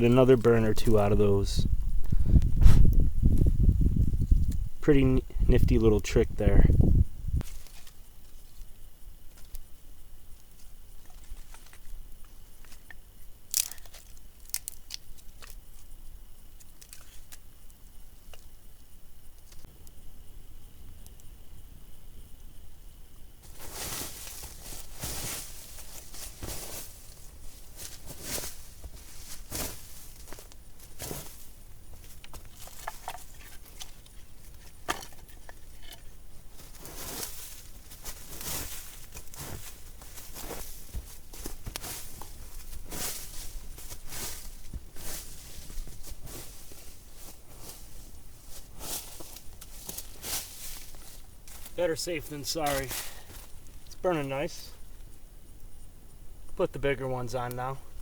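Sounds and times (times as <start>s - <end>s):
campfire wood crackling and snapping: 7.4s - 21.9s, 22.5s - 56.6s.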